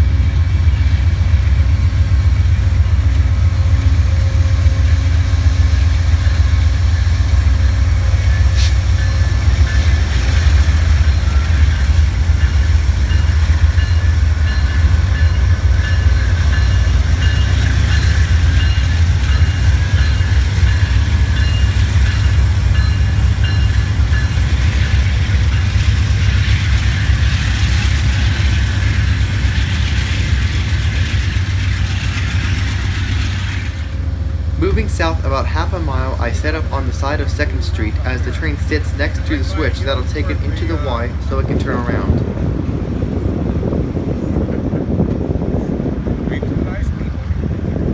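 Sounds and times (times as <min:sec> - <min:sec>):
passenger train rolling by: 0:00.0 - 0:47.9.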